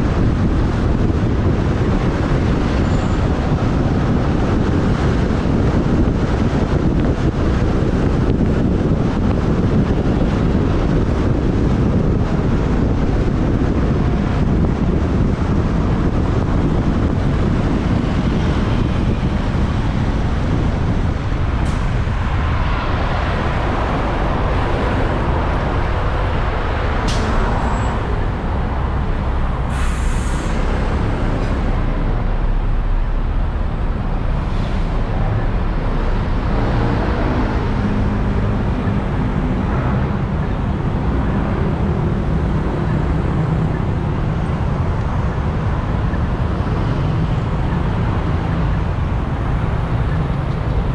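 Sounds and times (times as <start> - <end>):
road and wind noise: 0.0 - 50.9
traffic: 0.0 - 50.9.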